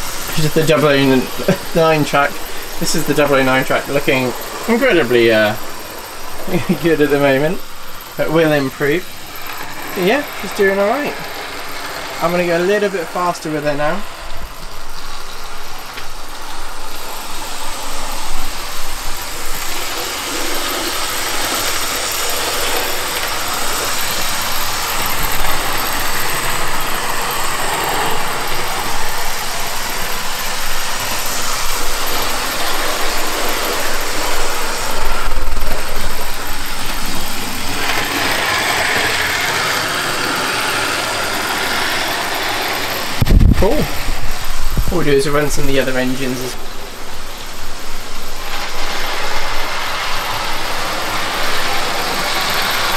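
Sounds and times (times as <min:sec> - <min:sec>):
model train motor rattling buzz: 0:00.0 - 0:52.9
model train wheels on track: 0:00.0 - 0:52.9.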